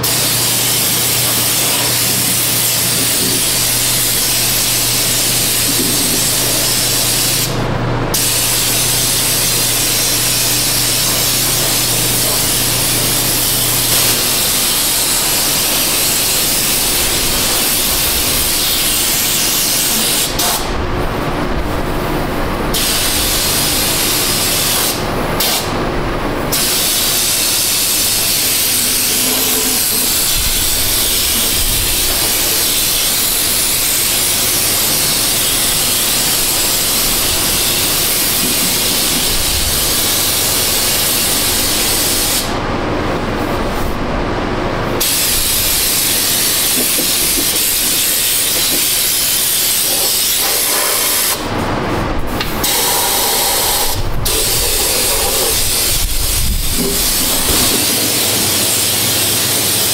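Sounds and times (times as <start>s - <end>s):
spray gun hissing: 0.0s - 20.7s, 22.7s - 25.8s, 26.4s - 42.6s, 45.0s - 51.6s, 52.2s - 59.9s.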